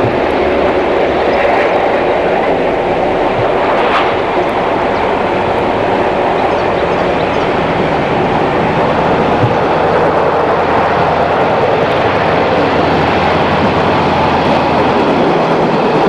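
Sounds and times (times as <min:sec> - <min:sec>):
rail machine rumbling on tracks: 0:00.0 - 0:16.0.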